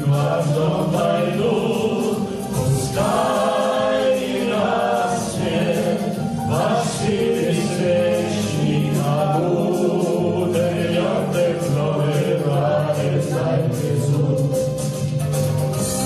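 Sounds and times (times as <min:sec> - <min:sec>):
mixed choir singing: 0:00.0 - 0:15.1.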